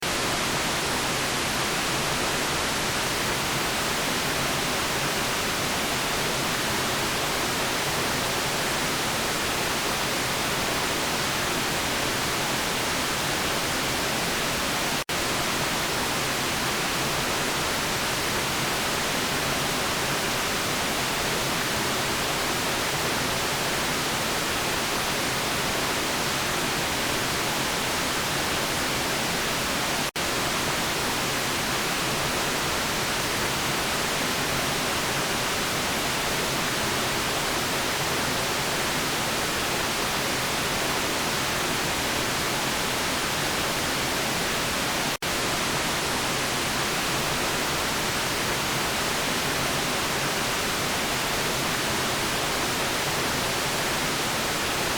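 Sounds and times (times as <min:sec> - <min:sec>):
white noise hiss: 0:00.0 - 0:54.9.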